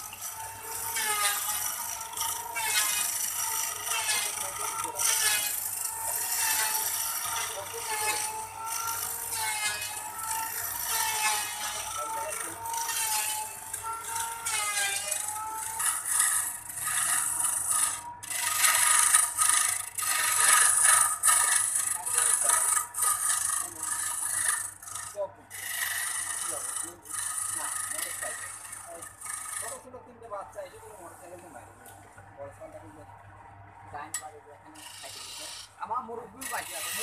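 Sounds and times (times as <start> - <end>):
chisel scraping wood: 0.0 - 29.9, 34.2 - 37.0
wood lathe whine: 0.0 - 32.9, 34.2 - 37.0.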